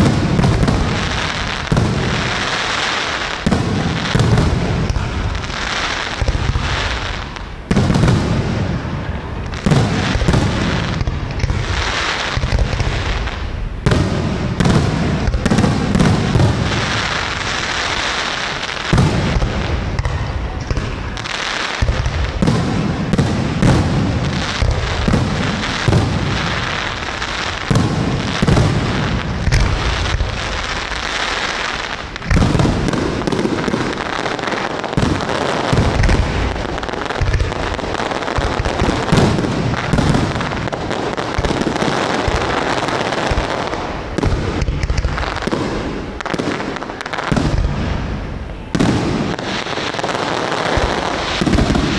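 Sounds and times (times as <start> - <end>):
fireworks booming and crackling: 0.0 - 51.9.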